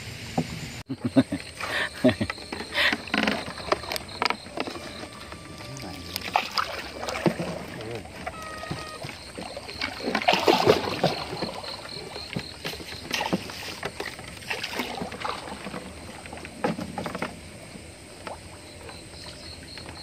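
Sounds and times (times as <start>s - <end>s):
water splashes: 0.0s - 20.0s
boat knocks: 2.0s - 20.0s.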